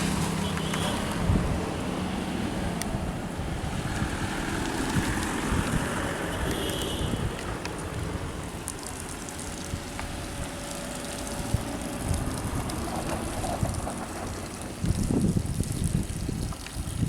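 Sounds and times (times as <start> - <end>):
heavy truck engine rumbling: 0.0 - 15.4.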